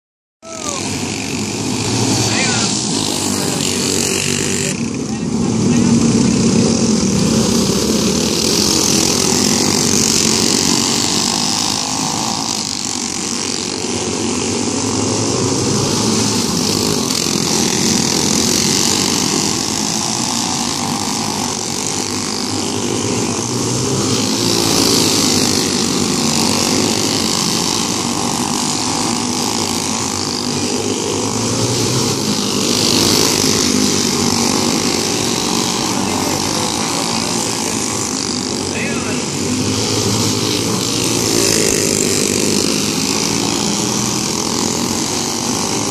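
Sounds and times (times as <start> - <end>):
go-kart engines racing: 0.4 - 45.9.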